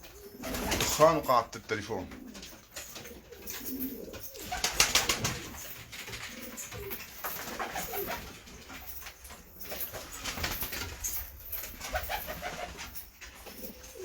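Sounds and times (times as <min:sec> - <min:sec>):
pigeons cooing: 0:00.0 - 0:01.3, 0:01.9 - 0:14.0.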